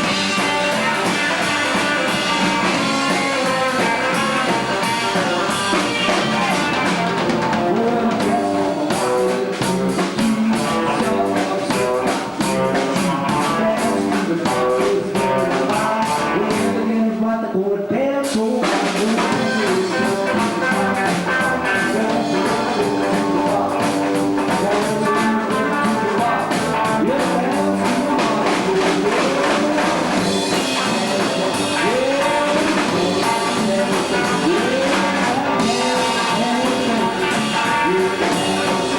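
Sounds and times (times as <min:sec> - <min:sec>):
drum kit with rimshots: 0:00.0 - 0:17.2, 0:18.2 - 0:38.9
electric guitar: 0:00.0 - 0:38.9
person singing: 0:00.0 - 0:38.9.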